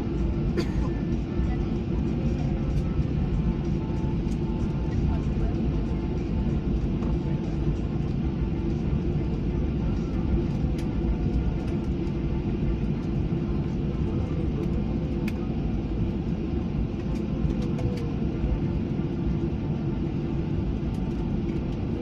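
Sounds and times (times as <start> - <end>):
airliner engine rumble in cabin: 0.0 - 22.0.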